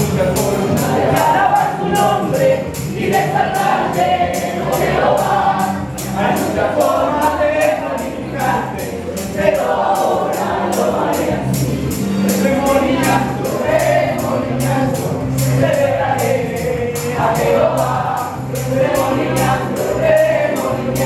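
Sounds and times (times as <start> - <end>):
band with steady beat: 0.0 - 21.0
tambourine: 0.0 - 21.0
voices singing together: 0.0 - 21.0.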